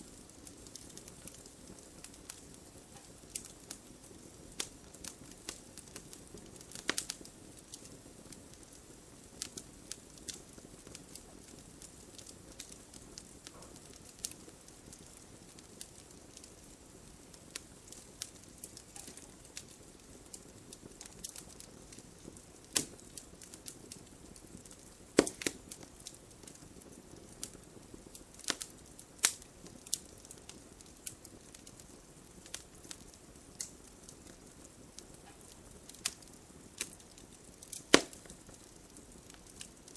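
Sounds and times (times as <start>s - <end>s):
campfire flame rushing: 0.0s - 39.9s
wood crackling and popping: 0.0s - 39.9s.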